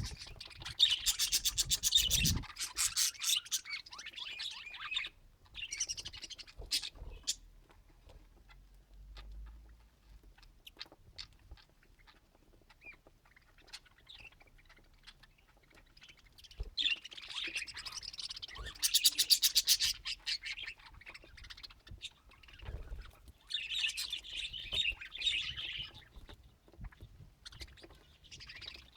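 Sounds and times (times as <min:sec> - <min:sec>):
budgerigars chattering: 0:00.0 - 0:07.5, 0:10.4 - 0:28.9.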